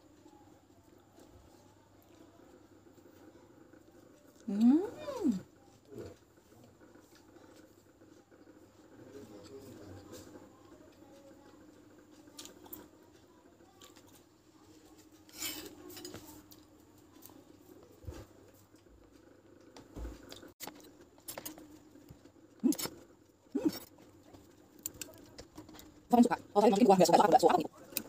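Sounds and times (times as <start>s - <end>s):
eating sounds: 2.0s - 16.8s, 17.4s - 28.0s.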